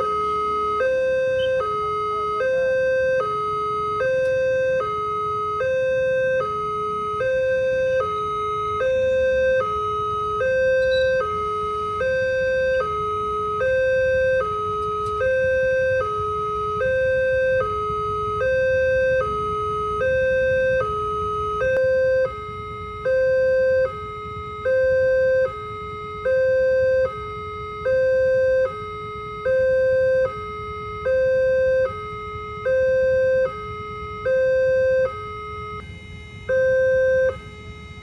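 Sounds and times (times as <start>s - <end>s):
two-tone level crossing alarm: 0.0s - 38.0s.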